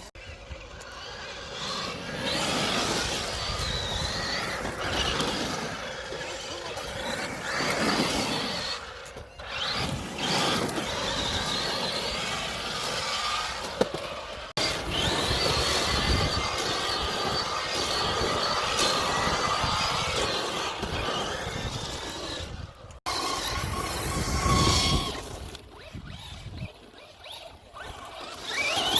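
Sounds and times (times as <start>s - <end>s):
rc truck motor whining: 0.0s - 28.9s
tyres on dirt: 0.0s - 28.9s.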